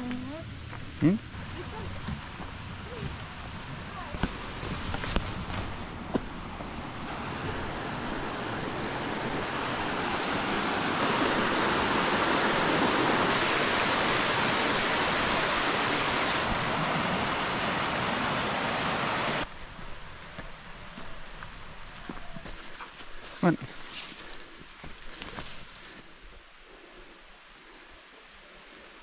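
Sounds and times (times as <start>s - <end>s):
creek water rushing: 1.2s - 26.1s.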